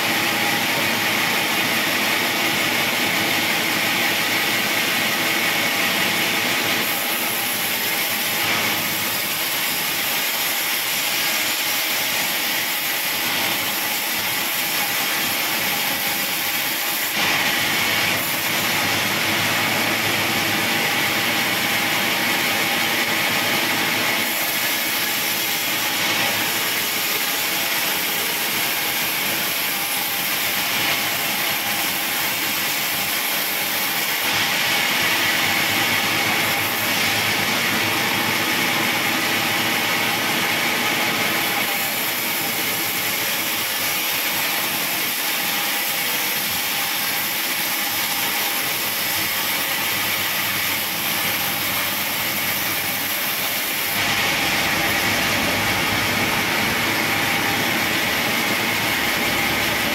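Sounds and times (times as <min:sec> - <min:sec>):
band saw blade whirring: 0:06.7 - 0:59.9.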